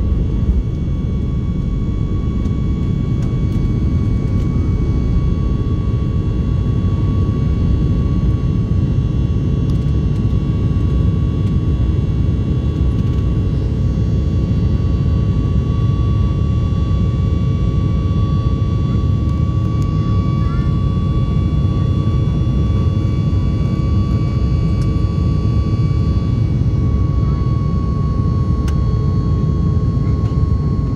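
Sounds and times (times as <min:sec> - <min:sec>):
jet engine rumble: 0:00.0 - 0:30.9
thin steady whine: 0:00.0 - 0:30.9.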